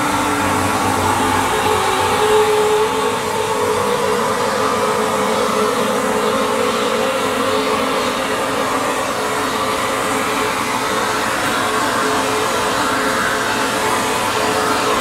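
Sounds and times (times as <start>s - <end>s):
constant machine hum: 0.0s - 15.0s.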